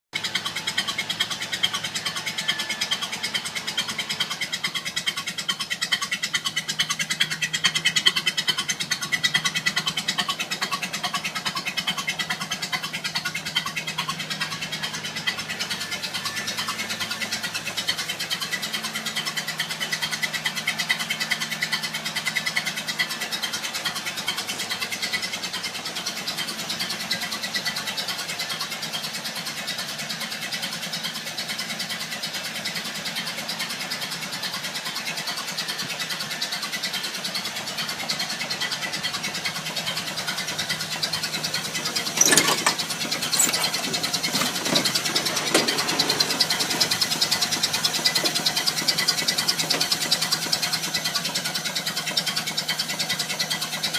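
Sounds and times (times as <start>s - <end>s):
car engine pulsing: 0.2s - 53.9s.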